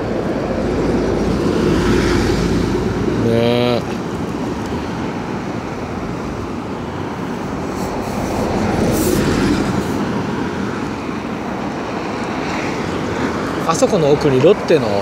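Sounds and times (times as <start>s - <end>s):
car passing close: 0.0s - 15.0s
road traffic: 0.0s - 15.0s.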